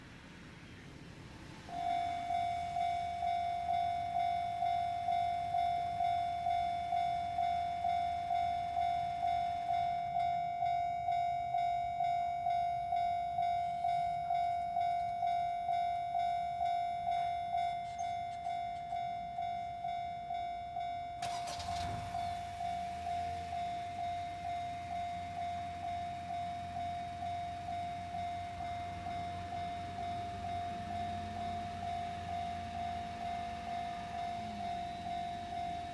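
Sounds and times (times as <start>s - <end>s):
train arriving: 0.0s - 35.9s
level crossing alarm: 1.4s - 35.9s.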